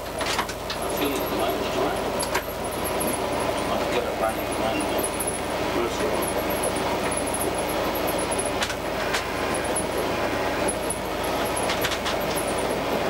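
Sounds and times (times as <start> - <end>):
diesel railcar rumble and hum: 0.0 - 13.0.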